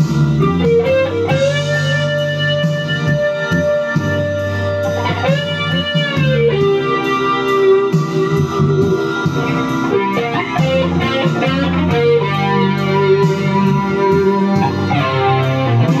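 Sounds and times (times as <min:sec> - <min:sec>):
backing track music: 0:00.0 - 0:16.0
distorted lead electric guitar: 0:00.0 - 0:16.0.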